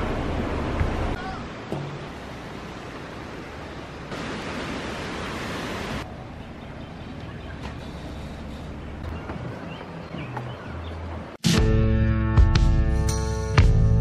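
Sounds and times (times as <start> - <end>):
steady rushing outdoor noise: 0.0 - 11.5.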